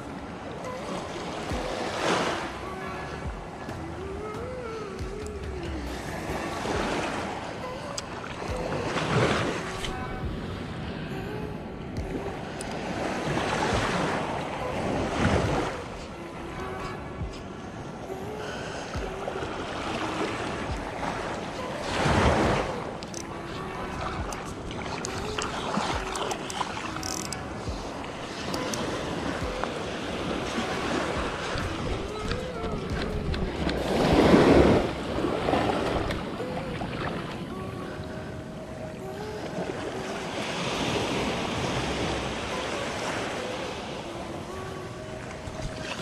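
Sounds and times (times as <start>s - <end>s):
small waves washing: 0.0s - 46.0s
wind on microphone: 0.0s - 46.0s.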